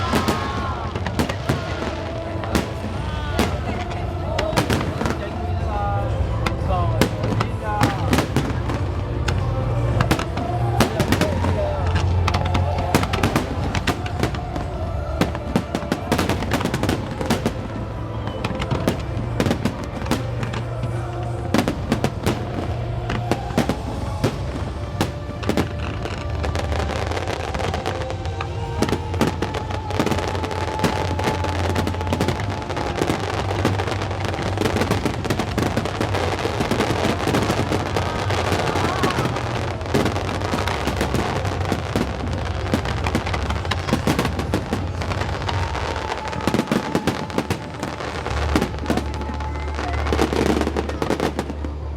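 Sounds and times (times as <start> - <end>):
fireworks bangs and crackles: 0.0 - 51.9
music playing: 0.0 - 51.9.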